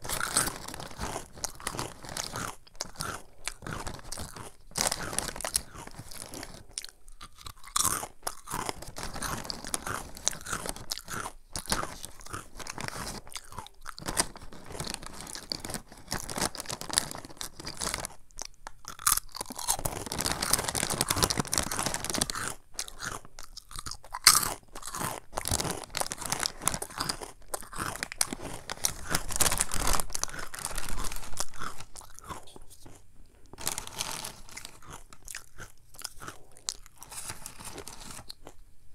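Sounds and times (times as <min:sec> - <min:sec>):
crunching and chewing snack: 0:00.0 - 0:38.6.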